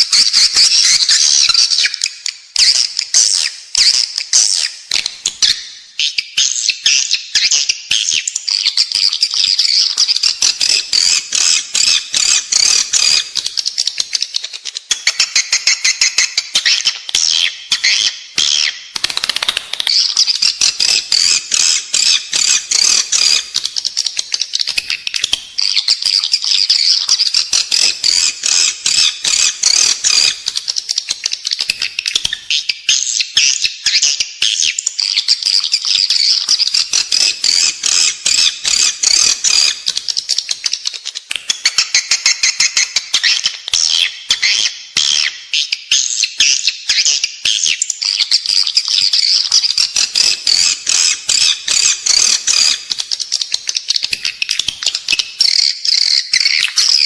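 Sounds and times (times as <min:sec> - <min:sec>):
swiftlets chirping and twittering: 0:08.6 - 0:40.9, 0:41.5 - 0:57.0.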